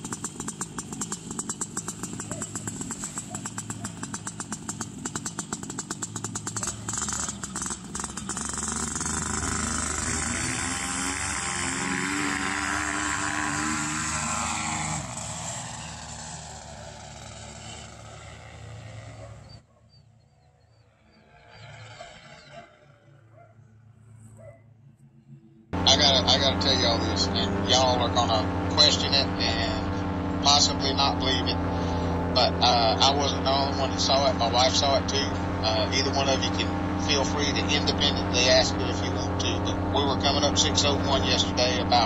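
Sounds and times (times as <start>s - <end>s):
paramotor engine and propeller: 0.0s - 19.6s, 20.5s - 24.5s, 25.2s - 42.0s.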